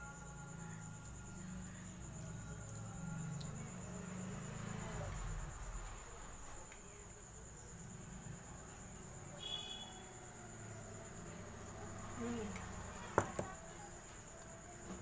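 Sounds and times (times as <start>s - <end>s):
cricket trilling: 0.0s - 15.0s.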